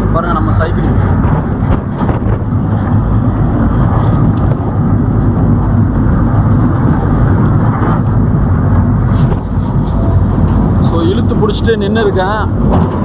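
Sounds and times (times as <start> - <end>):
road rumble: 0.0 - 13.0
truck engine drone: 0.0 - 13.0.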